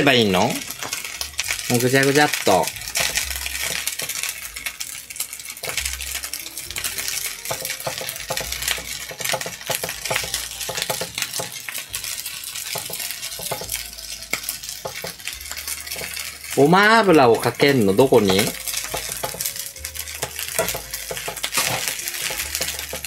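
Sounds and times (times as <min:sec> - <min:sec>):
food sizzling in pan: 0:00.0 - 0:23.0
metal spoon scraping frying pan: 0:00.2 - 0:23.0.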